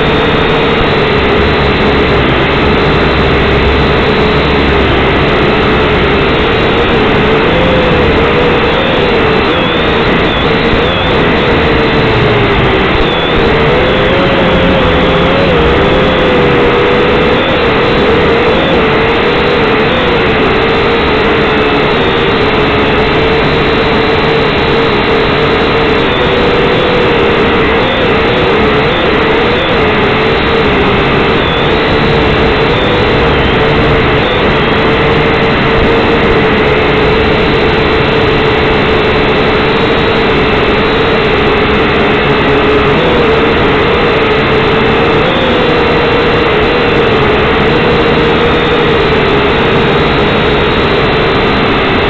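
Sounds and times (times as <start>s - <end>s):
quadcopter propellers buzzing: 0.0s - 52.0s.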